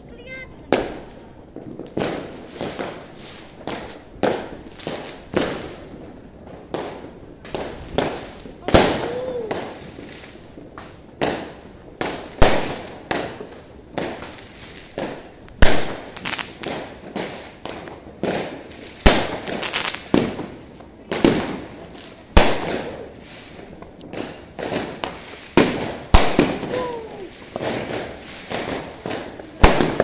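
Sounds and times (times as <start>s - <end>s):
fireworks bangs: 0.0s - 30.0s.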